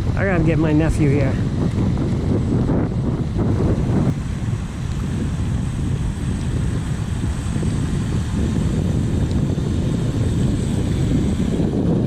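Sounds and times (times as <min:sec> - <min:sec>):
electric motor and propeller whine: 0:00.0 - 0:12.0
wind rumble on microphone: 0:00.0 - 0:12.0.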